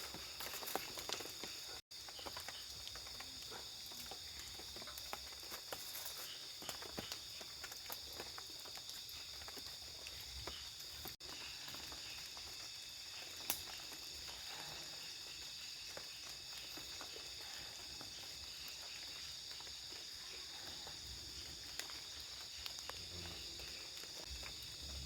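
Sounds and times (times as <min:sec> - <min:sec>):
crickets and night insects chirping: 0:00.0 - 0:25.0.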